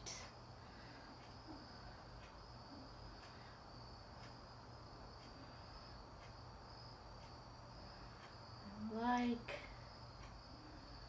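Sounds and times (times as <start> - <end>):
crickets and cicadas trilling: 0.0 - 11.0
faint ticks: 0.0 - 11.0
low steady hum: 0.0 - 11.0.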